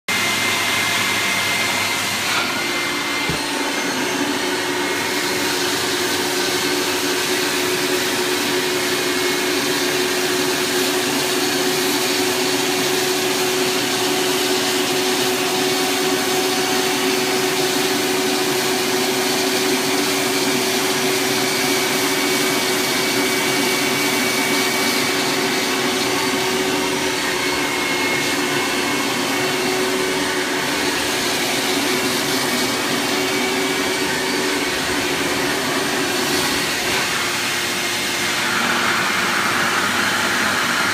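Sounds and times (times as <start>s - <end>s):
carpet cleaning machine suction: 0.1s - 40.9s.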